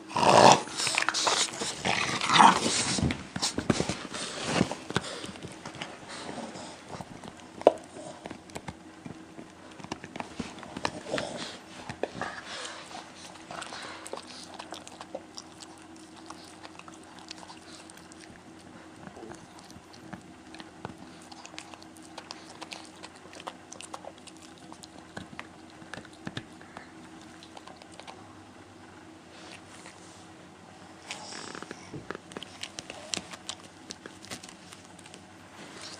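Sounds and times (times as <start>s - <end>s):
dog gnawing and crunching: 0.0s - 28.4s, 31.0s - 35.9s.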